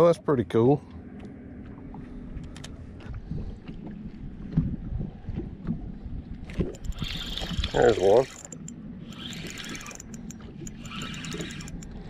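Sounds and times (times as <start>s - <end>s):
wind buffeting microphone: 2.2s - 12.0s.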